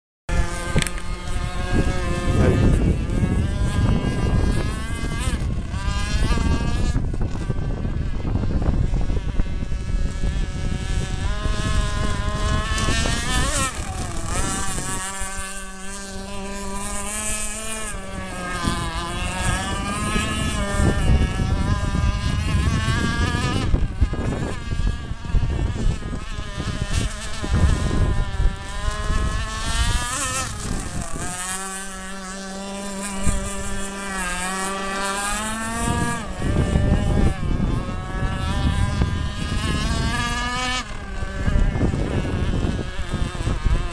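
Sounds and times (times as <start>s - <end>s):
model boat engine buzzing: 0.3s - 43.9s.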